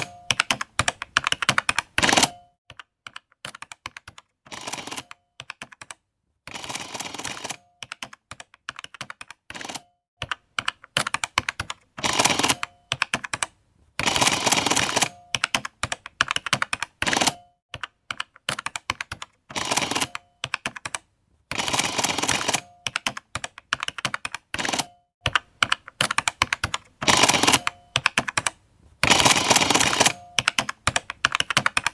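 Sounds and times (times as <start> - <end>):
calculator keys clicking: 0.0 - 6.0, 6.6 - 31.9.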